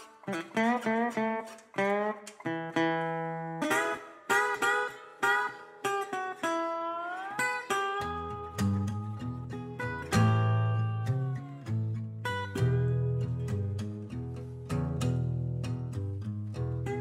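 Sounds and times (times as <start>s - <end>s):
acoustic guitar picking notes: 0.0s - 17.0s.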